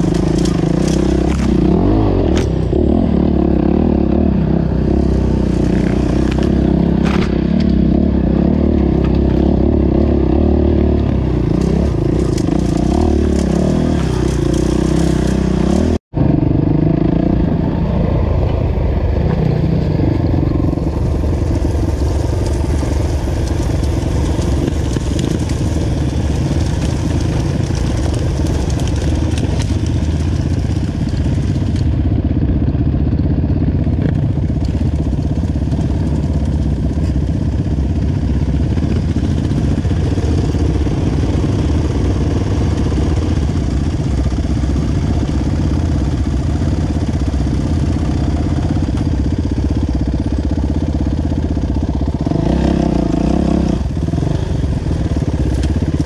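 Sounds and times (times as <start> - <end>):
dirt bike engines at low revs: 0.0 - 56.0.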